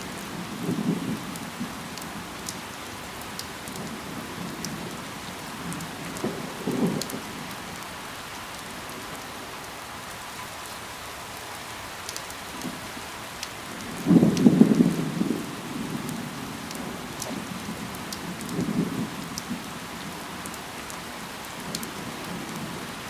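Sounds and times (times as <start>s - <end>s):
rain falling on foliage: 0.0s - 23.0s.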